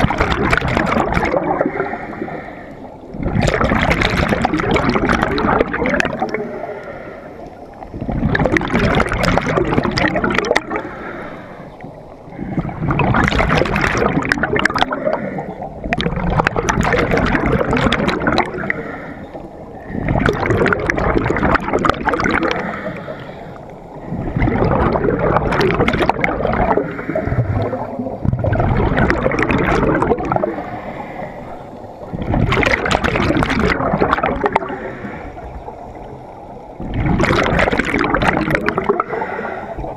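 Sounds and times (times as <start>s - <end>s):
regulator bubbles rushing underwater: 0.0s - 39.9s.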